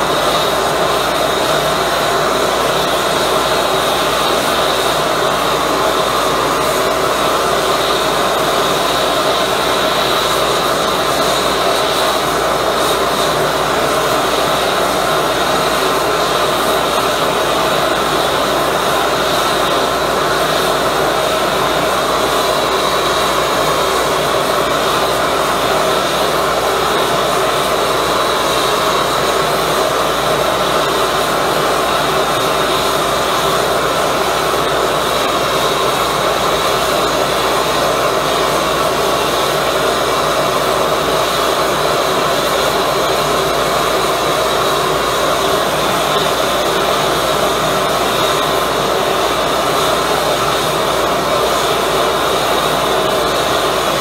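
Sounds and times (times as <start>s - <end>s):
propane burner rushing: 0.0s - 54.0s.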